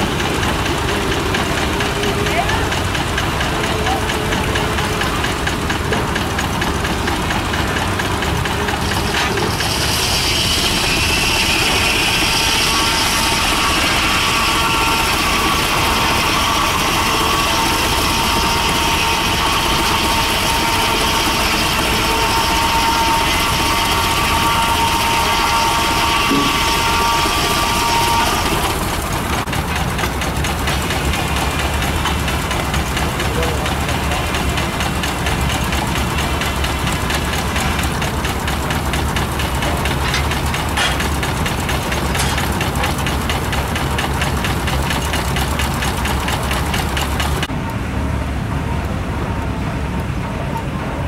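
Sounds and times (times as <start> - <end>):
circular saw cutting log: 0.0 - 47.6
steam traction engine running: 0.0 - 51.0.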